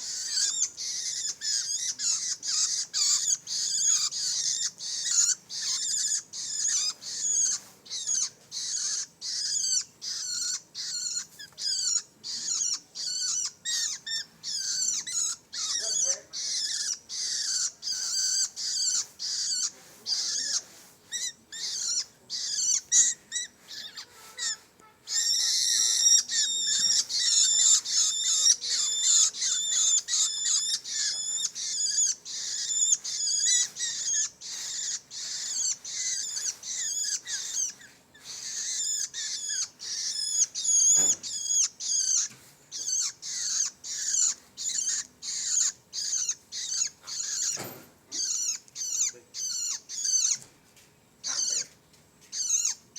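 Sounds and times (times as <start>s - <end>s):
chicks begging calls: 0.0s - 50.5s, 51.2s - 52.9s.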